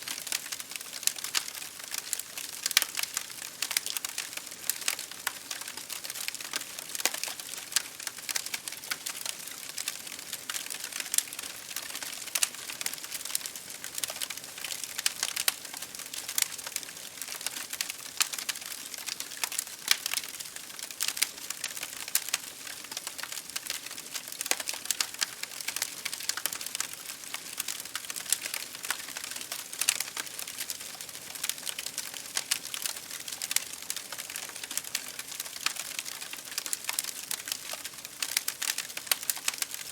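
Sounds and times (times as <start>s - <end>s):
rain pattering on window glass: 0.0s - 39.9s
wood fire crackling: 0.0s - 39.9s.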